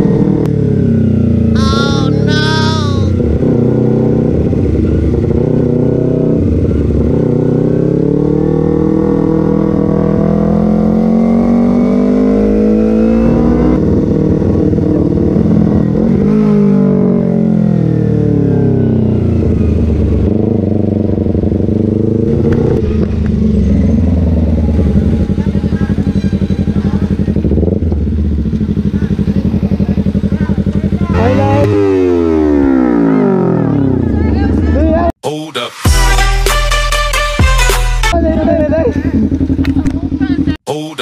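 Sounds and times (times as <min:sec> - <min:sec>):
motorcycle engine revving: 0:00.0 - 0:35.1, 0:38.1 - 0:40.6.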